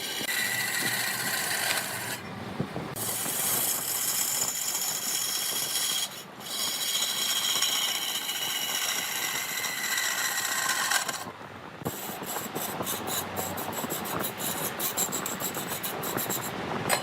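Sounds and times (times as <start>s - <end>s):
lathe tool scraping wood: 0.0s - 2.2s, 3.0s - 11.3s, 11.9s - 16.6s.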